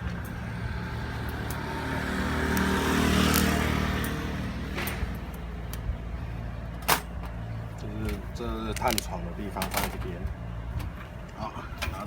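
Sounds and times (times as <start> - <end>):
vehicle engine passing: 0.0 - 11.3.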